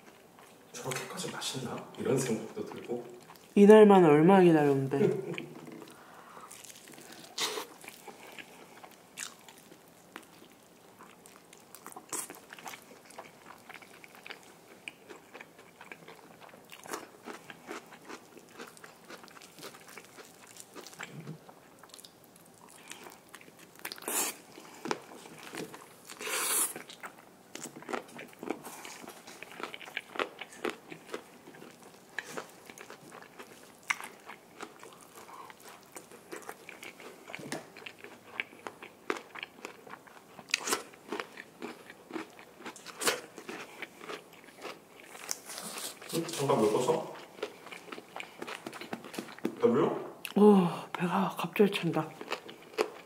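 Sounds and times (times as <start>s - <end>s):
crunchy chicken crust chewing: 5.4s - 49.5s, 52.2s - 53.0s.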